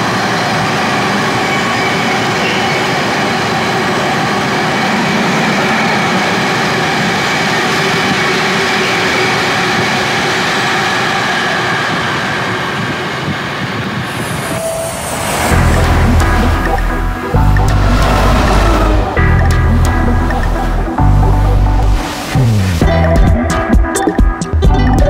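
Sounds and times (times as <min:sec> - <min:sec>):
held train tones: 0:00.0 - 0:23.7
train running noise: 0:00.0 - 0:23.7.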